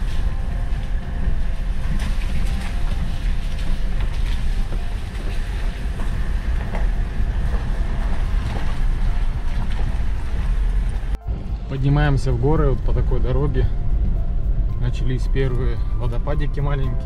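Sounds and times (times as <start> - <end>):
truck engine and tyres rumbling: 0.0 - 17.0.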